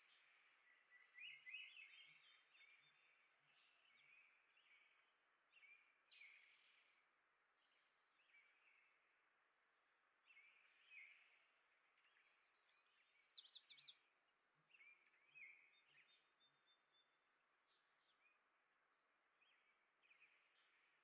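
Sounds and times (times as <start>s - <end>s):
soft steady hiss: 0.0s - 21.0s.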